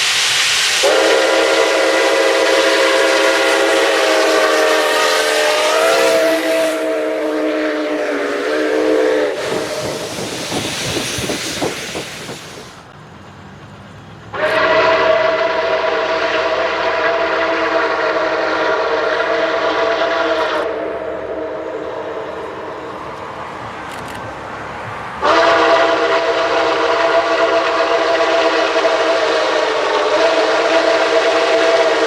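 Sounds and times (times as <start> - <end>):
steam locomotive chime whistle: 0.0 - 12.3, 14.3 - 23.0, 25.2 - 32.0
steam hiss: 0.0 - 13.0, 14.3 - 32.0.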